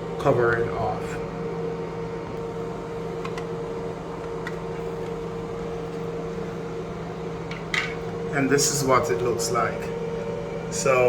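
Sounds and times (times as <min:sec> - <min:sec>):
appliance hum: 0:00.0 - 0:11.0.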